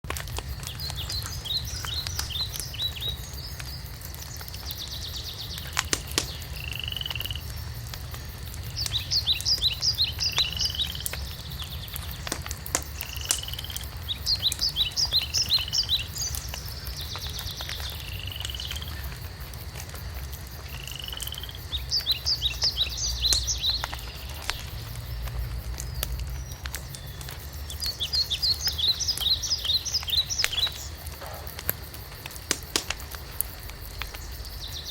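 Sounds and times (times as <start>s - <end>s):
wood fire crackling: 0.0s - 34.9s
songbird singing: 0.2s - 19.8s, 20.4s - 34.9s.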